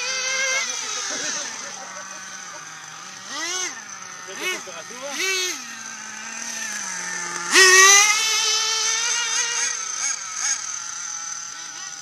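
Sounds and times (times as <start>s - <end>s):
model car engine revving: 0.0s - 12.0s.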